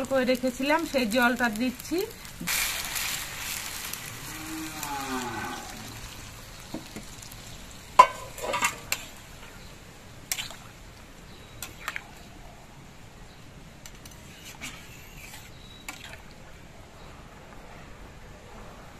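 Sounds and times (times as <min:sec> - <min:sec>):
water splashing and sizzling: 0:00.0 - 0:16.6.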